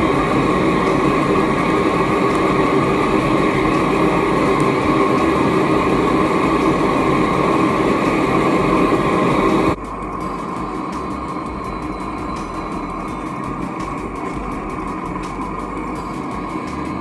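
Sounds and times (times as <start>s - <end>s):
constant hum: 0.0s - 17.0s
furnace roaring: 0.0s - 17.0s.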